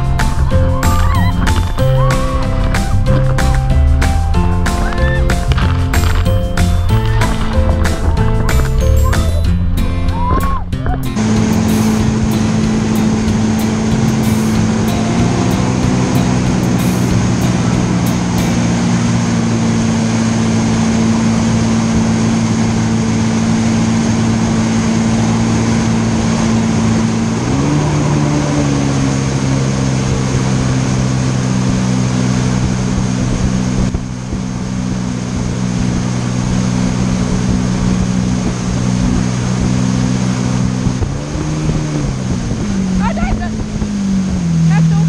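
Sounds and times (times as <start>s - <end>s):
jet ski engine running: 0.0s - 45.0s
water rushing and spray: 0.0s - 45.0s.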